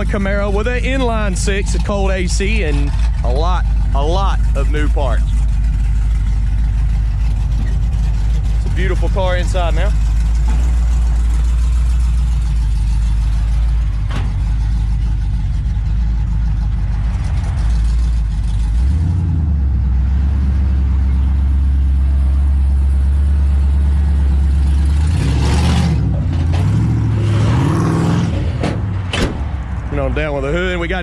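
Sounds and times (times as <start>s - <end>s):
car engine idling: 0.0s - 27.2s, 28.5s - 31.0s.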